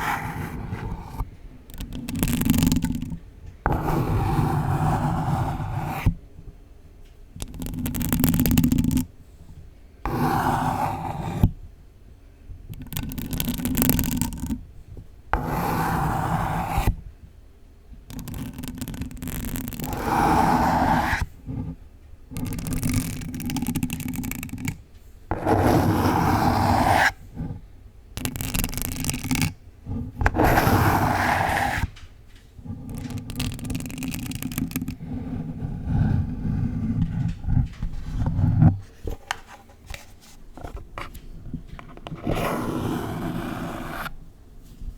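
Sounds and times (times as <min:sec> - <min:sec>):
fingernails scratching a box: 0:00.0 - 0:06.2, 0:07.4 - 0:09.1, 0:10.0 - 0:11.6, 0:12.8 - 0:14.6, 0:15.3 - 0:17.0, 0:18.1 - 0:32.0, 0:32.6 - 0:44.2.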